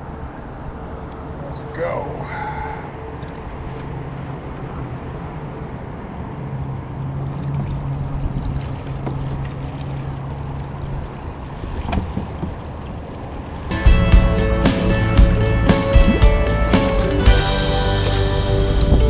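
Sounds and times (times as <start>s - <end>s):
water noise: 2.8s - 19.0s.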